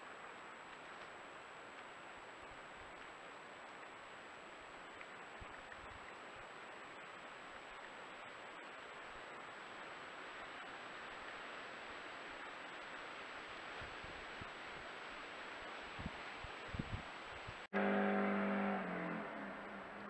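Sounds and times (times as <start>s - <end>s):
microphone hiss: 0.0s - 20.0s.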